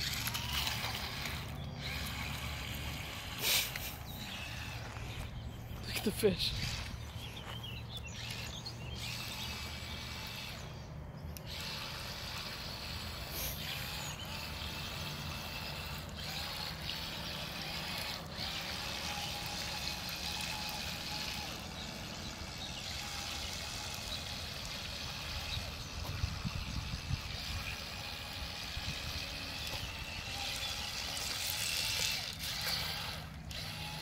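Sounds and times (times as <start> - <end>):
toy car splashing through water: 0.0 - 4.8, 11.4 - 34.0
thin motor whine: 0.0 - 34.0.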